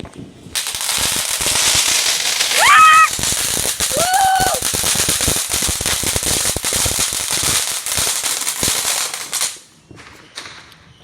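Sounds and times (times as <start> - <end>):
firework crackling and popping: 0.0 - 11.0.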